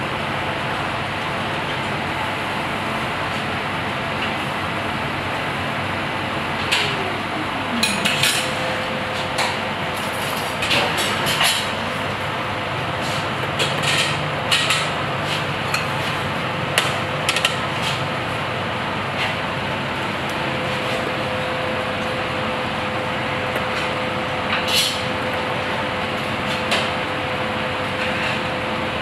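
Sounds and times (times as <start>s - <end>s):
kitchen background rush: 0.0s - 29.0s.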